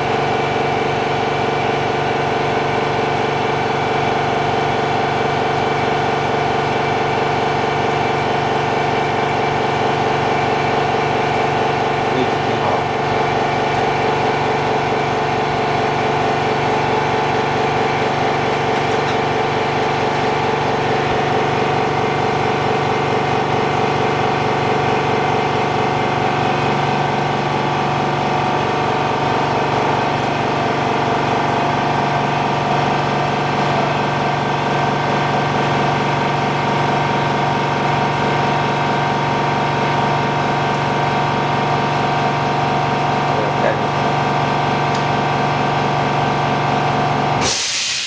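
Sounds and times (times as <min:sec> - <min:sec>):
machine pump humming: 0:00.0 - 0:48.0.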